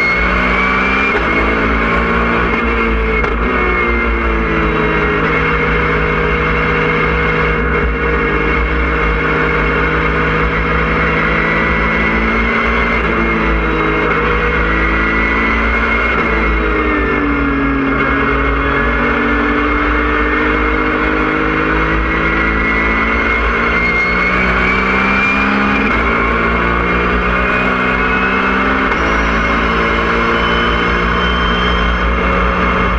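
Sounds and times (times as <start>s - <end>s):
race car engine at speed: 0.0s - 32.9s.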